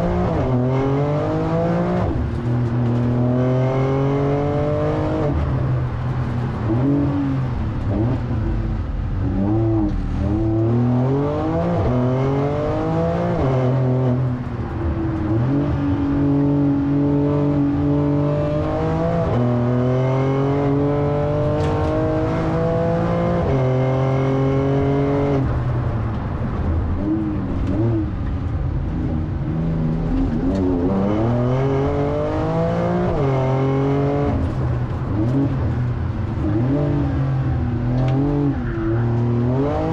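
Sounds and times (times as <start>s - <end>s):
car engine revving through gear shifts: 0.0s - 8.6s, 9.2s - 25.6s, 27.0s - 39.9s.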